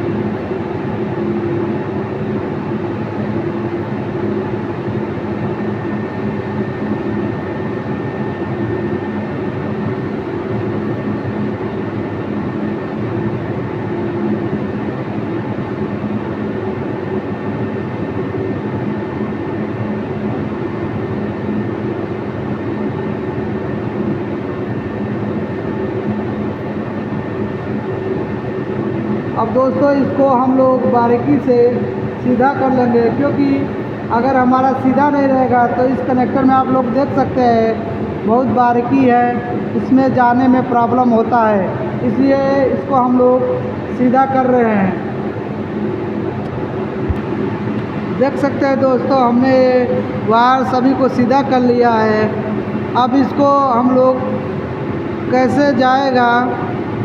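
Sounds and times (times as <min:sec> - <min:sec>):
mechanical hum with rushing noise: 0:00.0 - 0:57.0.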